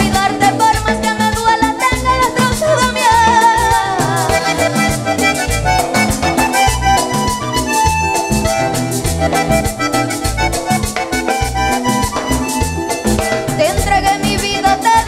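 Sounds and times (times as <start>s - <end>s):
accordion melody: 0.0s - 15.0s
bass: 0.0s - 15.0s
congas: 0.0s - 15.0s
drum kit: 0.0s - 15.0s.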